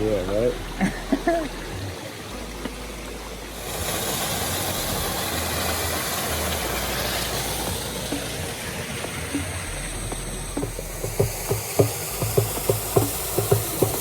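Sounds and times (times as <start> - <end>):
flowing water hiss: 0.0 - 14.0.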